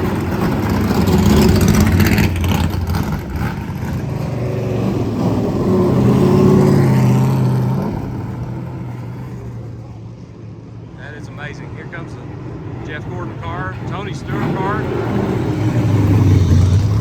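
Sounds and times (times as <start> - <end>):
race car engines driving past: 0.0 - 17.0.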